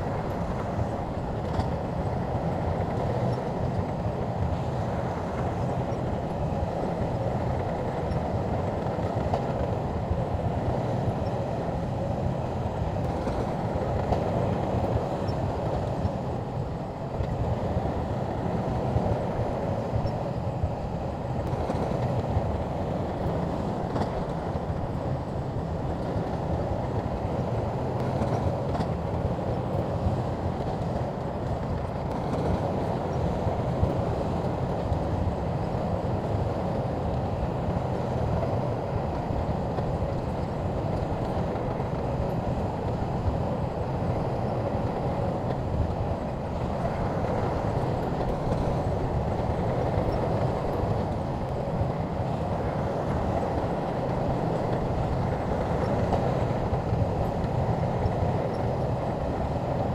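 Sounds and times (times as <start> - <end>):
bulldozer diesel engine: 0.0 - 59.9
steel tracks running: 0.0 - 59.9.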